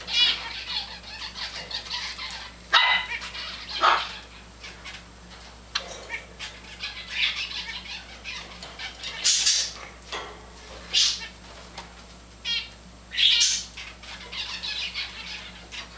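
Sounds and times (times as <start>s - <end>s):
rattling bird trill: 0.0s - 15.9s
sparrows calling: 0.0s - 15.9s.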